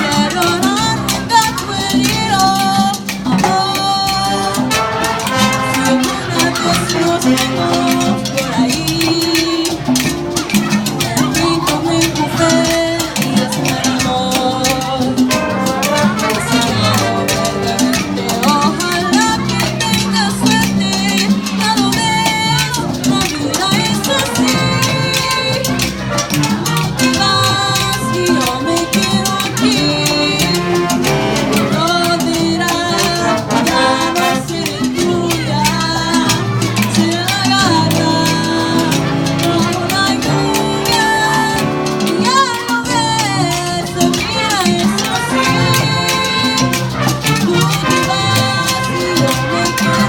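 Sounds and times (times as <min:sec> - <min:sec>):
jazz band playing latin music: 0:00.0 - 0:50.0.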